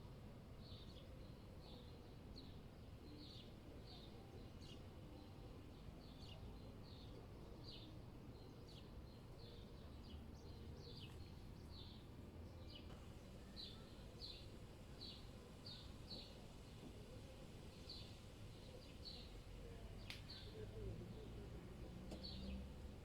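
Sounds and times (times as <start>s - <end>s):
low city rumble: 0.0s - 23.0s
songbird chirping: 0.6s - 23.0s.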